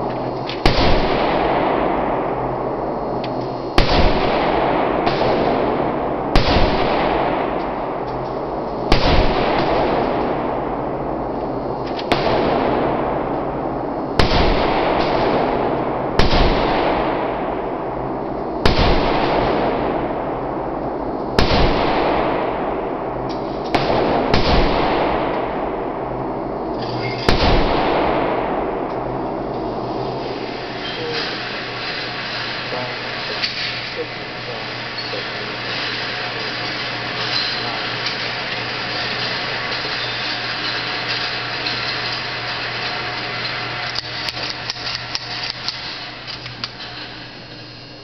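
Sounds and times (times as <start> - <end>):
pistol shots with echo: 0.0 - 47.3.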